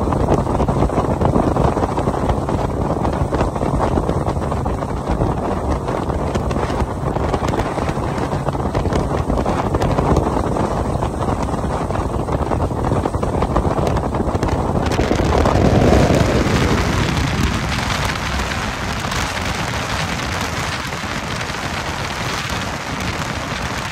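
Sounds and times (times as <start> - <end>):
boat hull and water rush: 0.0 - 23.9
wind buffeting microphone: 0.0 - 23.9.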